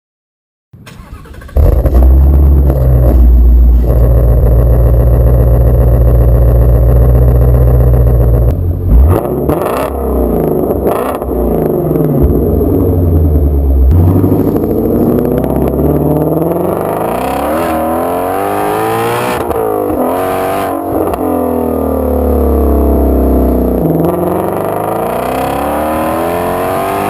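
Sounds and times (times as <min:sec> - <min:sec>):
car engine revving: 0:00.8 - 0:27.0.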